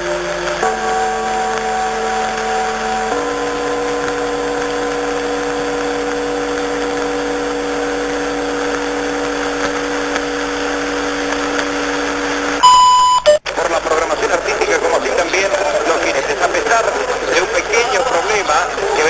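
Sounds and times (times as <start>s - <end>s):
radio static hiss: 0.0s - 19.0s
steady radio tones: 0.0s - 19.0s.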